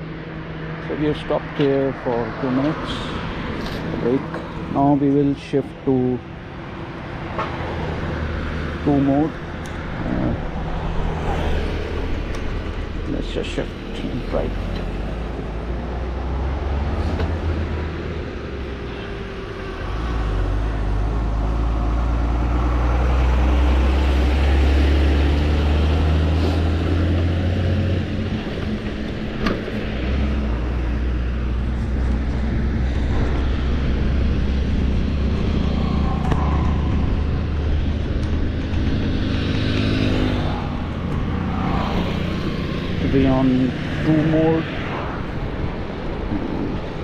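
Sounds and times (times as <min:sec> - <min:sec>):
motor vehicle engine: 0:00.0 - 0:47.0
road and tyre noise: 0:00.0 - 0:47.0.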